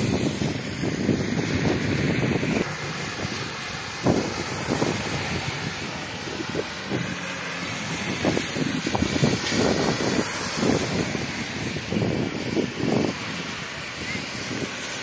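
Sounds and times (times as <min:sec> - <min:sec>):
tyres hissing on wet road: 0:00.0 - 0:15.0
wind buffeting microphone: 0:00.0 - 0:15.0.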